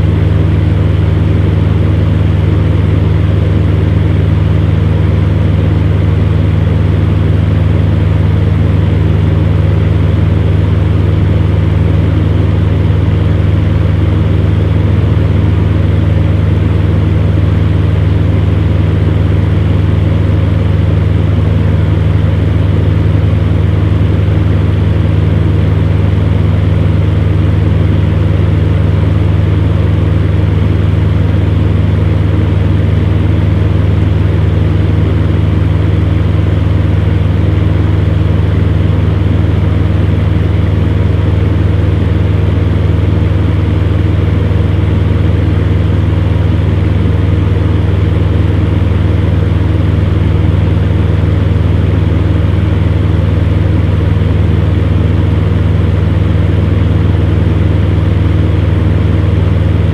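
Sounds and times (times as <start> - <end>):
fan heater running: 0.0 - 59.9.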